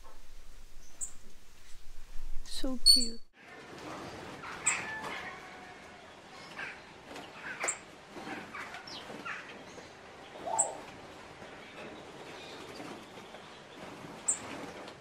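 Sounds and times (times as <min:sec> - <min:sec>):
birds chirping: 0:00.0 - 0:01.7, 0:04.0 - 0:15.0.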